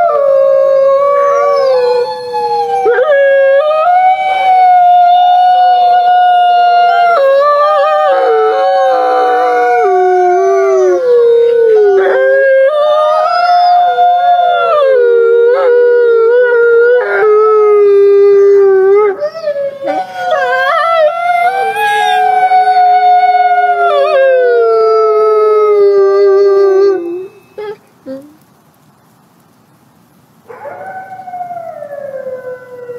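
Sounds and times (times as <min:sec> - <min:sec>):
wolves howling: 0:00.0 - 0:28.3, 0:30.5 - 0:32.9.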